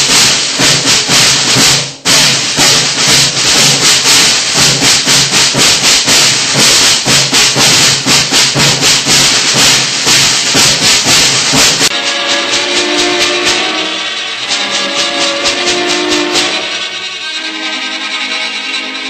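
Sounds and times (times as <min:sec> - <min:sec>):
snare drum beat: 0:00.0 - 0:17.0
heavy hiss: 0:00.0 - 0:17.9.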